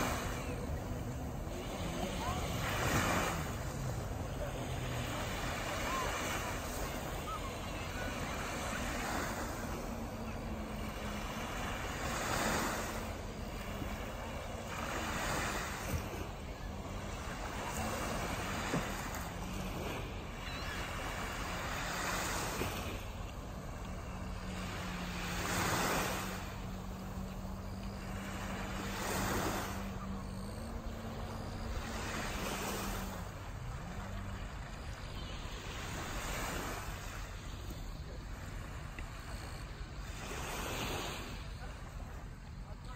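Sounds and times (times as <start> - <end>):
distant jet ski engine: 0.0 - 42.9
surf: 0.0 - 42.9
wind: 0.0 - 42.9.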